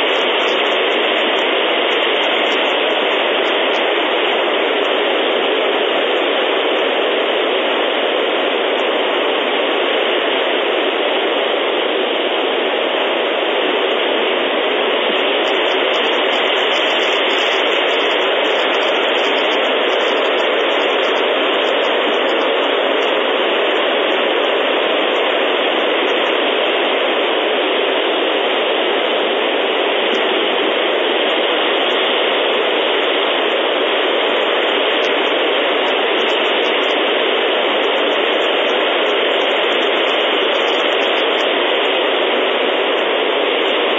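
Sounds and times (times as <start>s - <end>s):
steady audio feed hiss: 0.0s - 43.9s.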